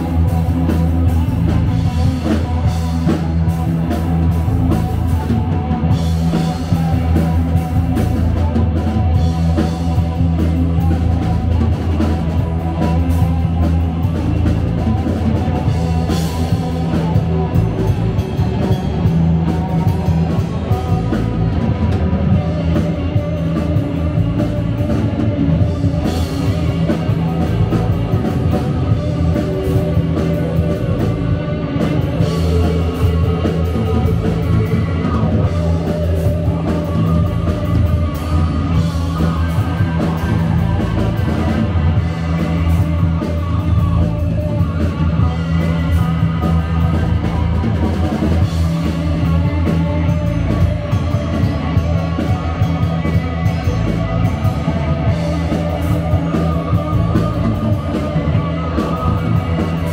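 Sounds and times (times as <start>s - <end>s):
electric guitar lead: 0.0s - 59.9s
live rock band playing: 0.0s - 59.9s.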